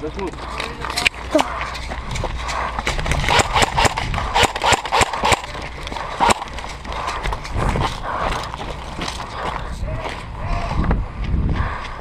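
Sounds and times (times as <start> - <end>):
footsteps on hard ground: 0.0 - 12.0.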